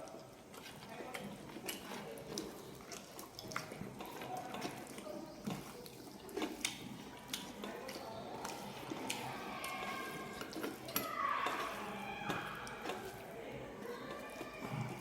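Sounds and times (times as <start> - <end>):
wet chewing: 0.0 - 15.0.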